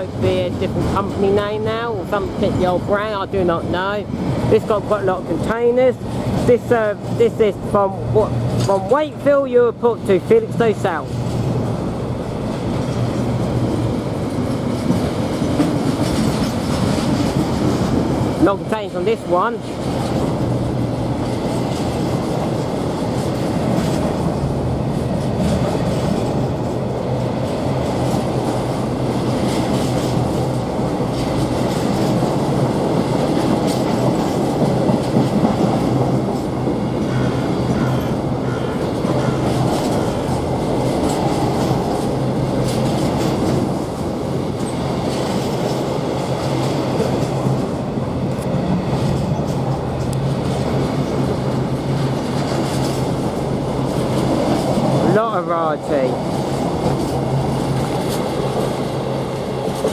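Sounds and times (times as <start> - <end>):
freight train rolling past: 0.0 - 59.9
wagons clattering over rail joints: 0.0 - 59.9.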